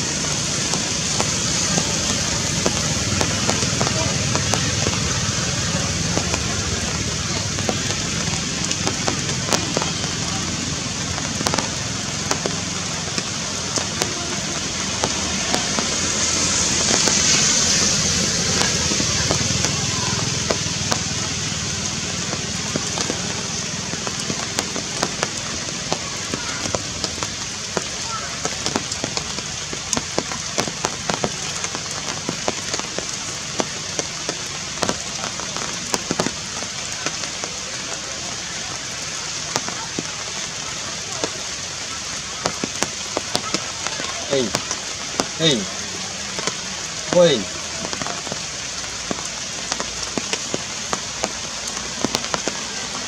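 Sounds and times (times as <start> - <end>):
steady hiss: 0.0 - 53.0.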